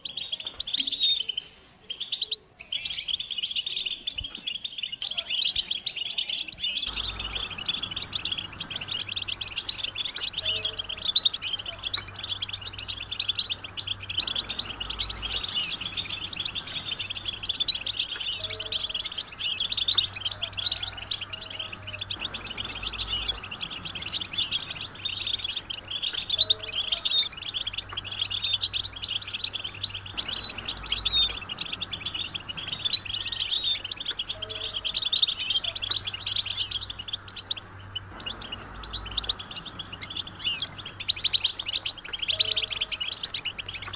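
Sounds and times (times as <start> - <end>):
goldfinches chattering and singing: 0.0 - 43.9
steady low hum: 6.8 - 43.9.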